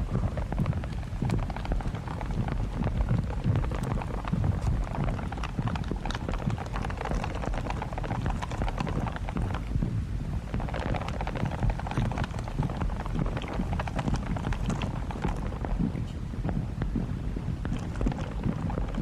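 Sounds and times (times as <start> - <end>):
dense crackle of small clicks: 0.0 - 19.0
steady low rumble: 0.0 - 19.0.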